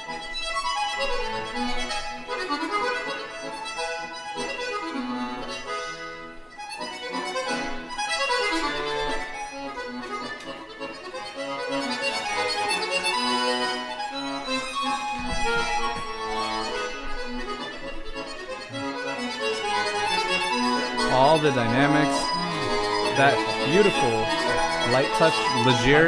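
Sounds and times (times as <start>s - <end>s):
accordion melody: 0.0s - 26.0s.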